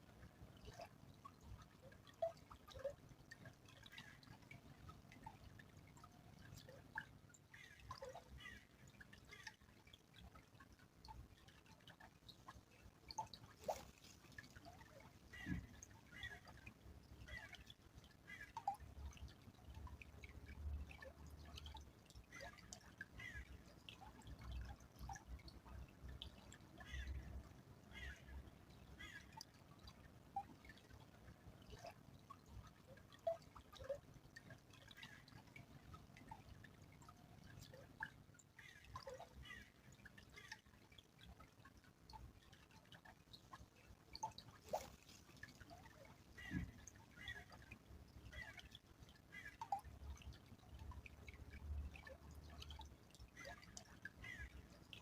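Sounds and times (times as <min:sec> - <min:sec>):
small stream trickling: 0:00.0 - 0:55.0
water drips and plinks: 0:00.0 - 0:55.0.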